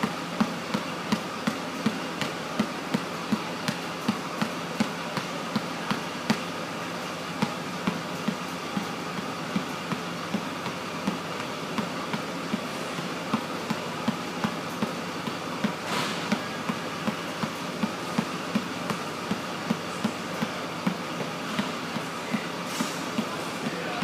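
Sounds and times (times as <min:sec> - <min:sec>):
basketball bouncing: 0:00.0 - 0:24.0.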